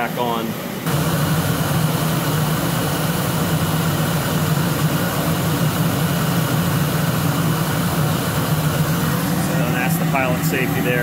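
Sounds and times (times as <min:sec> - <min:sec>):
boiler burner roaring: 0:00.0 - 0:11.0.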